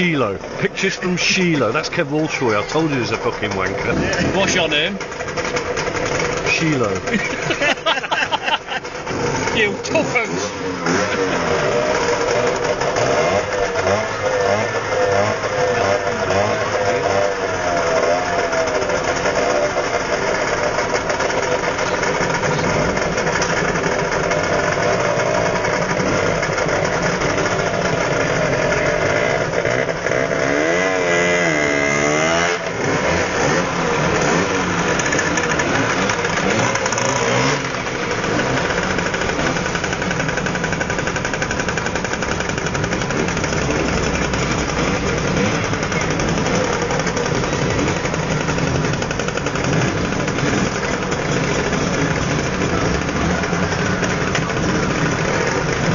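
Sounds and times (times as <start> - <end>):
scooter engine revving: 0.0 - 55.9
scooter engines idling: 0.0 - 55.9.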